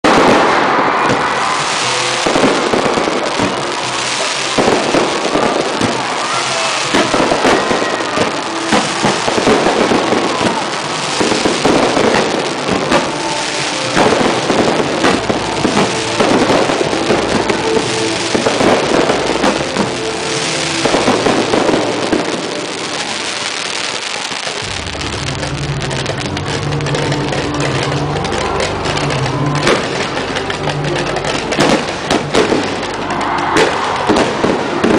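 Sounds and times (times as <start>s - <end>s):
fireworks bangs and crackle: 0.0s - 34.9s.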